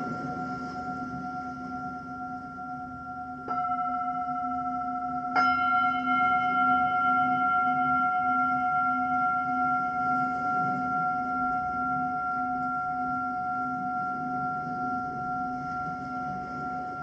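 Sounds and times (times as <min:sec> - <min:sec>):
bowl struck: 0:00.0 - 0:17.0
low wavering hum: 0:00.0 - 0:17.0
singing bowls ringing: 0:00.0 - 0:17.0.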